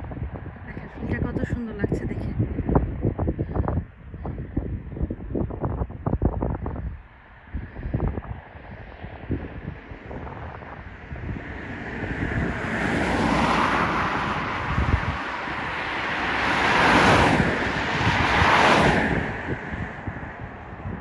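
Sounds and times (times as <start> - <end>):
passing road traffic: 0.0 - 21.0
wind rumbling on microphone: 0.0 - 21.0.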